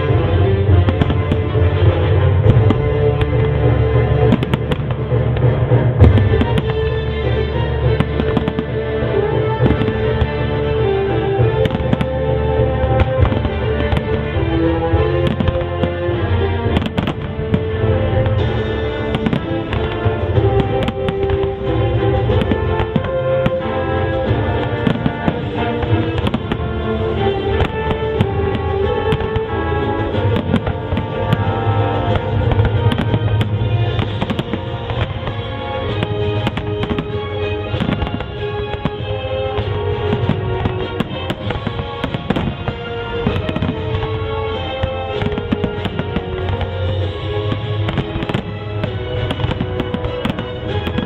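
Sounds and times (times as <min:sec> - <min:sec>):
fireworks bangs: 0:00.0 - 0:51.0
music with held notes: 0:00.0 - 0:51.0.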